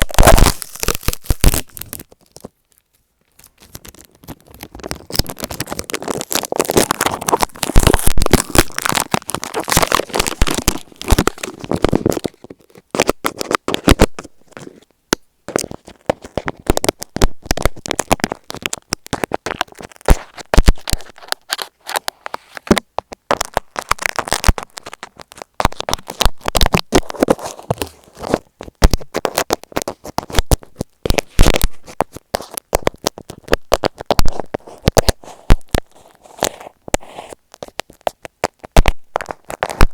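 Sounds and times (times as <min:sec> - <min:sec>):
crackling clicks on microphone: 0:00.0 - 0:39.9
scratchy rubbing on microphone: 0:03.4 - 0:14.9, 0:15.5 - 0:39.9.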